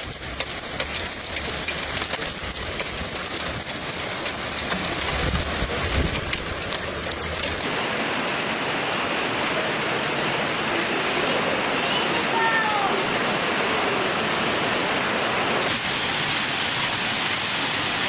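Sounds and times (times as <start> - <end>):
heavy rain: 0.0 - 18.0
rushing floodwater: 0.0 - 18.0.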